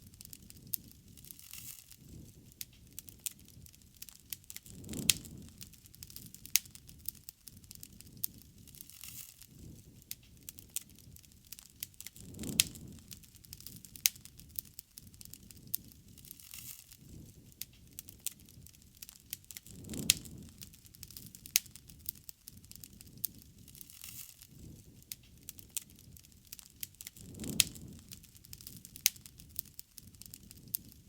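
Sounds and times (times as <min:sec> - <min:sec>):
bonfire crackling and popping: 0:00.0 - 0:31.0
low rushing of flames: 0:00.0 - 0:31.0.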